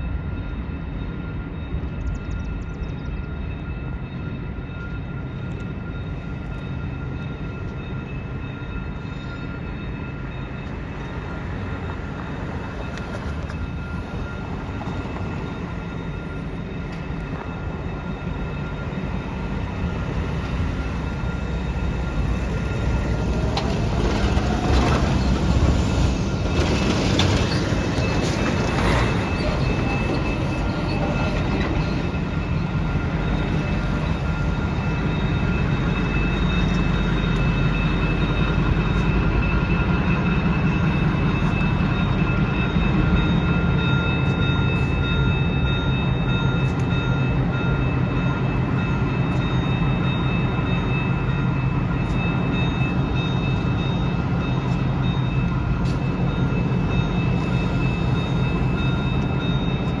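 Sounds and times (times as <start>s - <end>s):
diesel locomotive engine drone: 0.0s - 60.0s.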